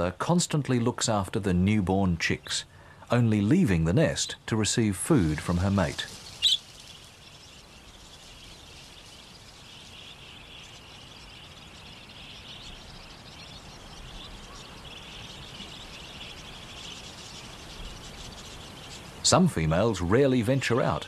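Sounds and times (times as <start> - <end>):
faint bird chirping: 0.0 - 21.0
steady hiss: 2.2 - 21.0.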